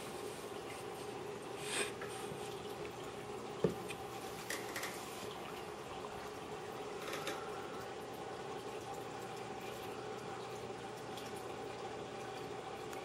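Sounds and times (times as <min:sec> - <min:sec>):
steady hum: 0:00.0 - 0:13.0
water trickling: 0:00.0 - 0:13.0.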